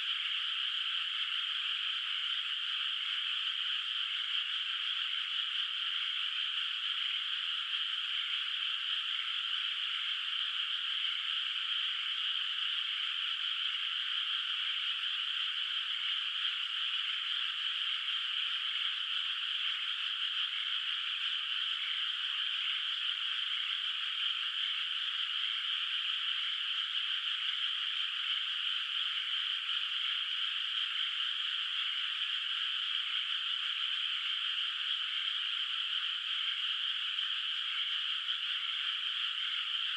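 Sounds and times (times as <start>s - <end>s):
frog chorus: 0.0s - 39.9s.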